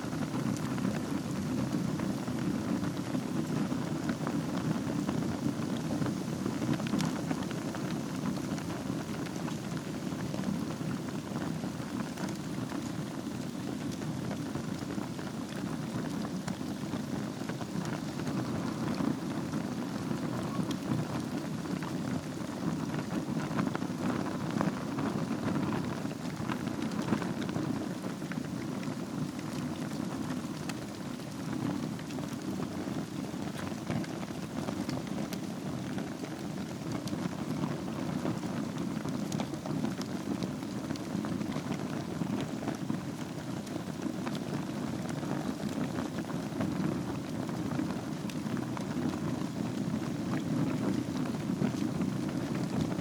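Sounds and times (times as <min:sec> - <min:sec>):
fire crackling and popping: 0:00.0 - 0:53.0
fire rushing: 0:00.1 - 0:53.0.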